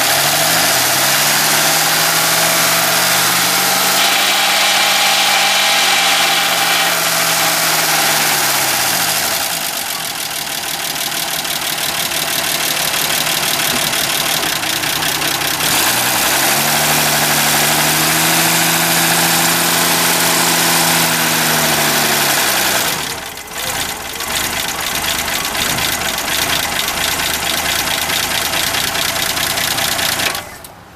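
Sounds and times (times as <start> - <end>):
rapid engine ticking: 0.0 - 30.8
car engine running: 0.0 - 30.9
engine rattle: 0.0 - 30.9.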